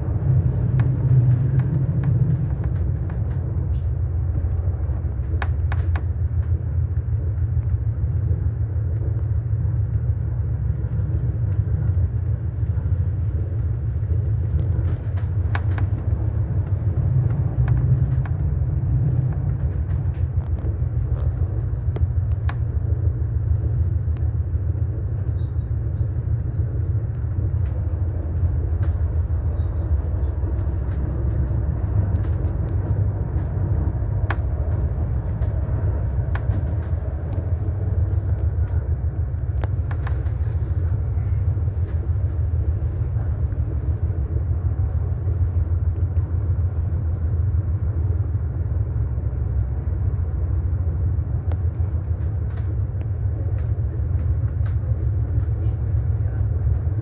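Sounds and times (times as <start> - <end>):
train carriage rumbling: 0.0 - 57.0.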